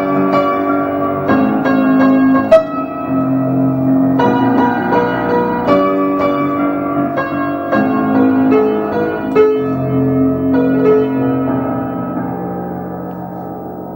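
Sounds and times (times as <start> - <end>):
slow piano chords and melody: 0.0 - 13.9.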